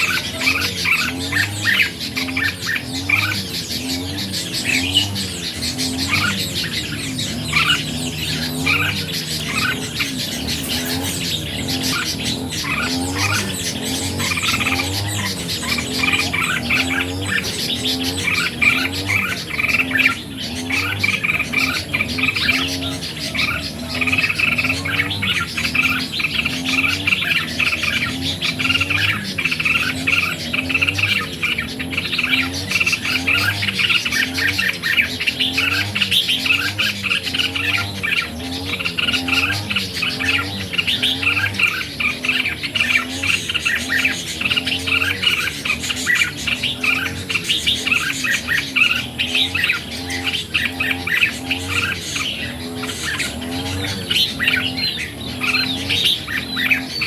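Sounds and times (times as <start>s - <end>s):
bulbuls chirping: 0.0s - 57.0s.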